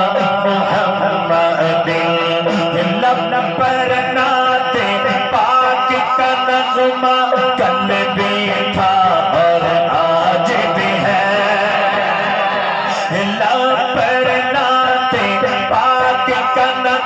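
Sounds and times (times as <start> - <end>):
man singing through a microphone: 0.0 - 17.0.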